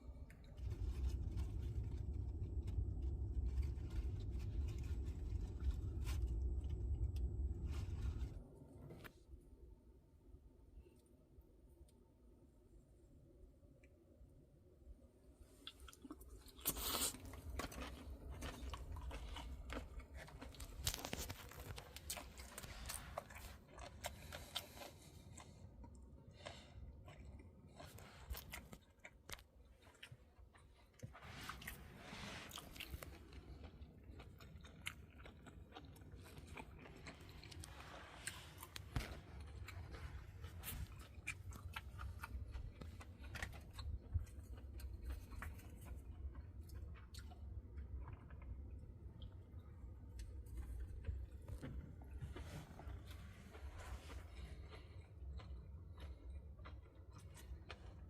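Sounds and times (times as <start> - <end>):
chewing and crunching: 0.0 - 9.2, 15.4 - 58.0
low steady hum: 0.0 - 58.0.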